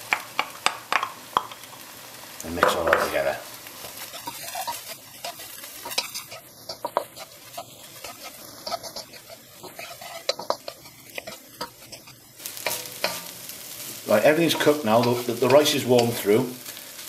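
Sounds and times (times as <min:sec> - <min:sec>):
food sizzling: 0:00.0 - 0:17.0
utensil scraping a frying pan: 0:02.6 - 0:17.0.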